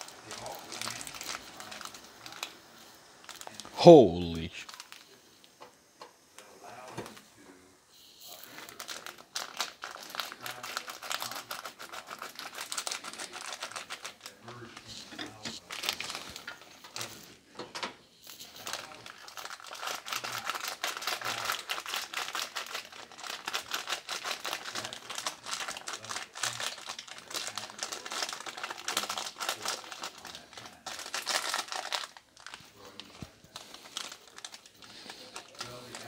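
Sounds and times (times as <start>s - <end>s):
plastic packet crinkling: 0.0s - 3.7s, 4.3s - 5.2s, 8.4s - 17.2s, 18.4s - 36.0s.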